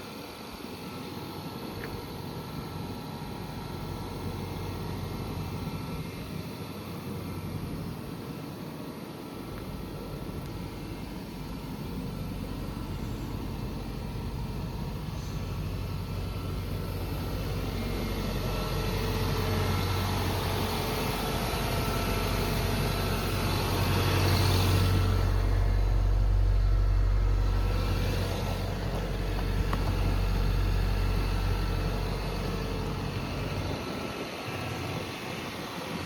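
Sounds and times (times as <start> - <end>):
diesel truck engine humming: 0.6 - 36.0.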